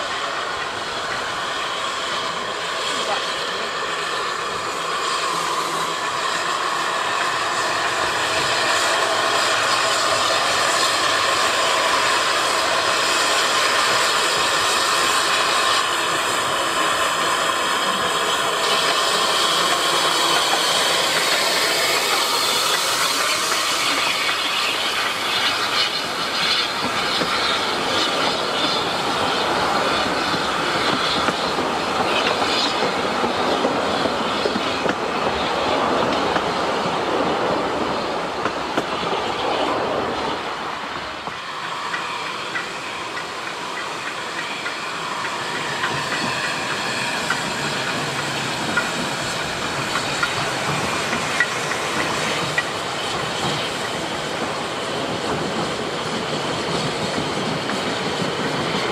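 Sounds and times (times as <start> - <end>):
steam locomotive running past: 0.0 - 58.9.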